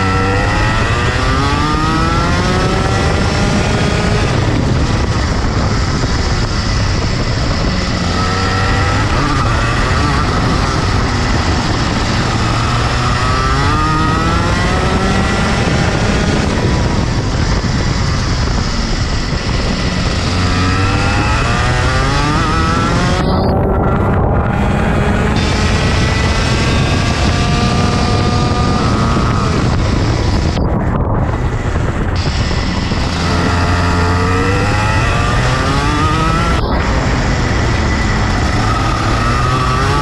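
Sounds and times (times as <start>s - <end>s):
two-stroke kart engine revving: 0.0s - 40.0s.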